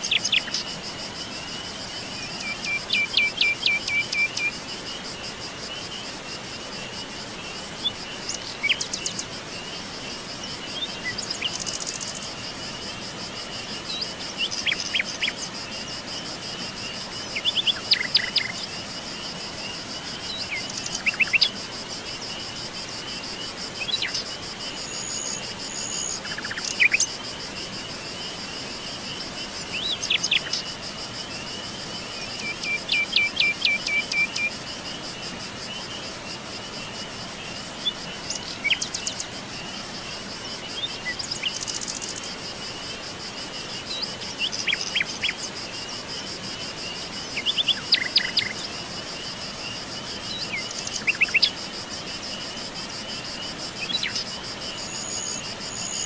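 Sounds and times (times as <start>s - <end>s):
high insect trill: 0.0s - 56.0s.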